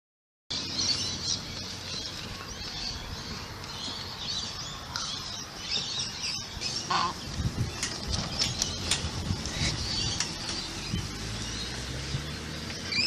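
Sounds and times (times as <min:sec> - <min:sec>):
birds chirping in chorus: 0:00.5 - 0:13.0.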